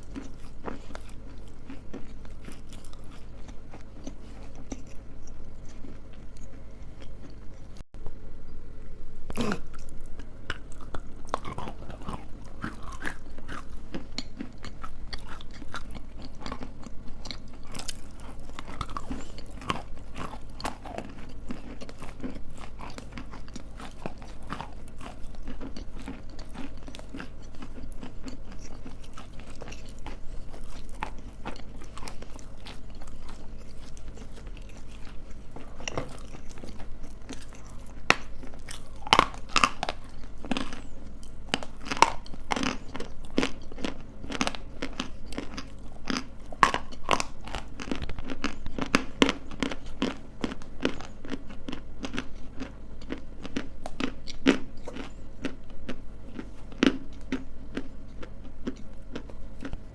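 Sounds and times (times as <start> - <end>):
crunchy chewing: 0.0 - 7.8, 9.3 - 59.9.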